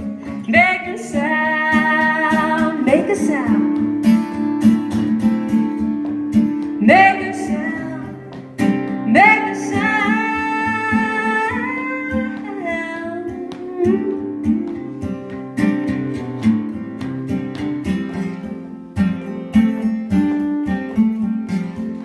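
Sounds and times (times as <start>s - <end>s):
acoustic guitar picked and strummed: 0.0s - 22.0s.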